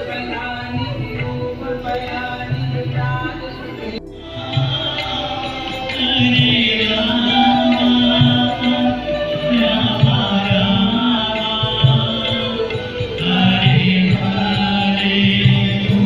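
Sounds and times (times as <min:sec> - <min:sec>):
devotional chanting with music: 0:00.0 - 0:16.0
held low tone: 0:00.0 - 0:16.0
steady low beat: 0:00.0 - 0:16.0.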